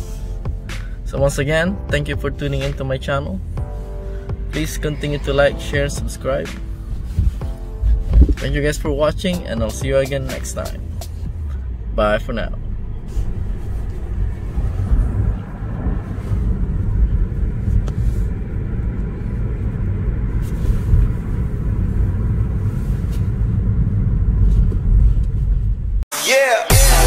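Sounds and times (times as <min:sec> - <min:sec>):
car tyre and road noise: 0:00.0 - 0:26.0.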